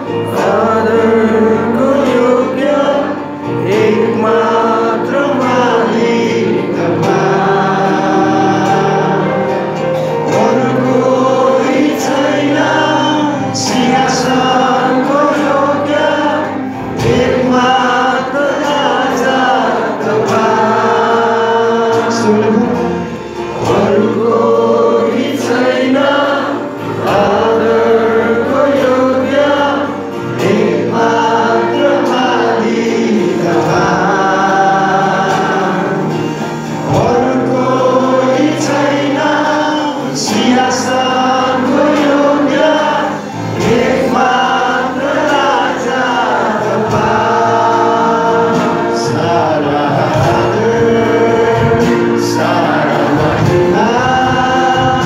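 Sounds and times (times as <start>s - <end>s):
group singing devotional song: 0.0s - 55.0s
instrumental accompaniment with beat: 0.0s - 55.0s.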